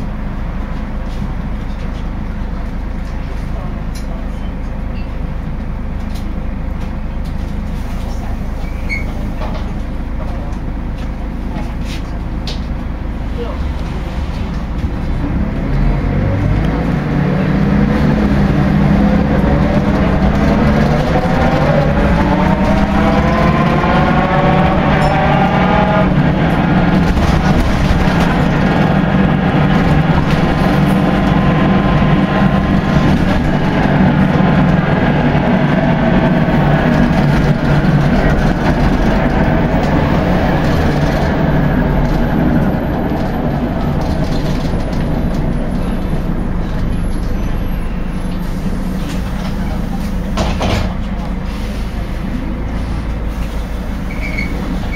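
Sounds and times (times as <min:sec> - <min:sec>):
bus drivetrain noise with whine: 0:00.0 - 0:54.9.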